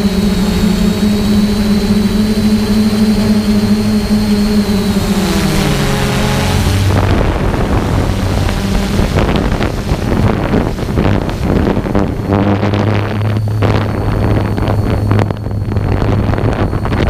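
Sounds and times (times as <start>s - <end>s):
drone propellers humming: 0.0s - 17.0s
wind buffeting microphone: 0.0s - 17.0s.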